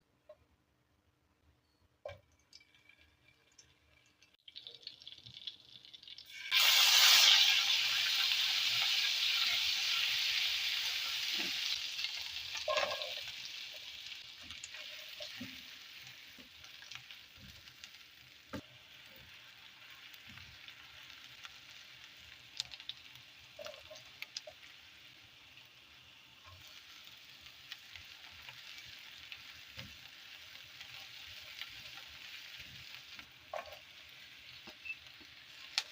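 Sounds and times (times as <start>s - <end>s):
food sizzling in a hot pan: 4.3s - 35.9s.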